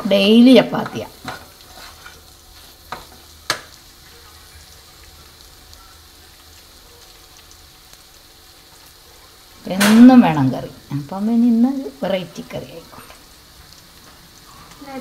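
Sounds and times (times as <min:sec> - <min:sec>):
faint sizzle of frying: 0:00.0 - 0:15.0.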